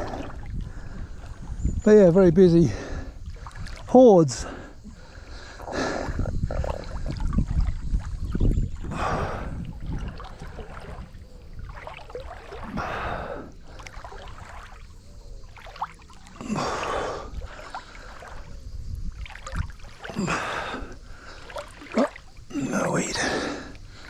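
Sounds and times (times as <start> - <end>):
swimmer splashing and breathing: 0.0 - 1.7, 2.6 - 24.0
wind on microphone: 0.0 - 15.9, 16.6 - 24.0
low rumble of water: 0.0 - 24.0.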